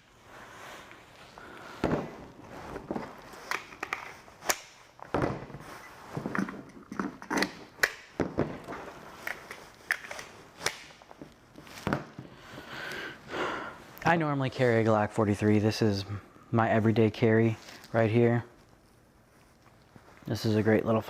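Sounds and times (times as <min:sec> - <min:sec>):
jacket fabric rustling: 0:00.0 - 0:15.6, 0:16.7 - 0:21.0.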